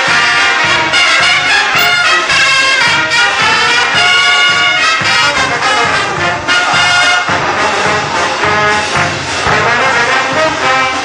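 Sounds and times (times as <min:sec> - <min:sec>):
brass band music: 0:00.0 - 0:11.0.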